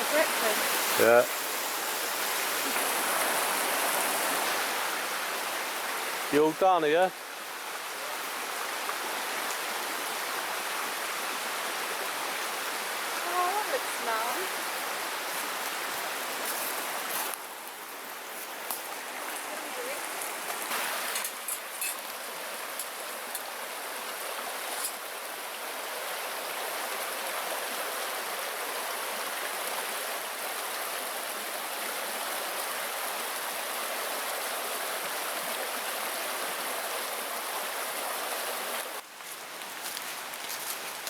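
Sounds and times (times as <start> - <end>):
creek running: 0.0 - 41.0.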